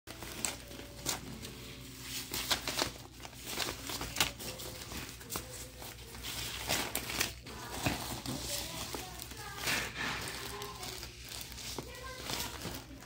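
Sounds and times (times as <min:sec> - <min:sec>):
paper and plastic bags rustling: 0:00.1 - 0:13.0.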